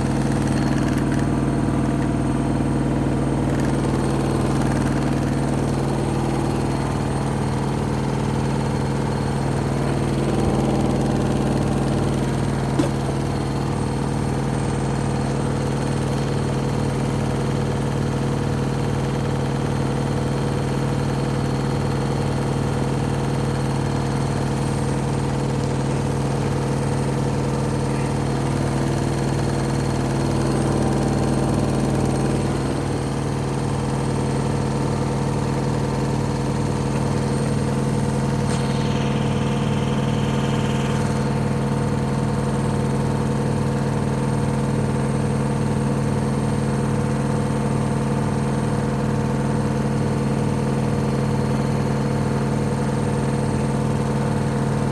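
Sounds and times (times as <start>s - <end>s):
washing machine spinning: 0.0s - 54.9s.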